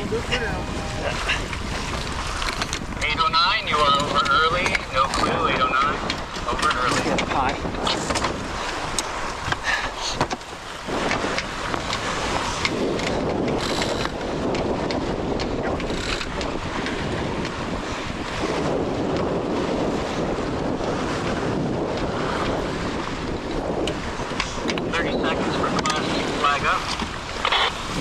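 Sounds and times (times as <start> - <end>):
water rushing along hull: 0.0 - 28.0
wind buffeting microphone: 0.0 - 28.0.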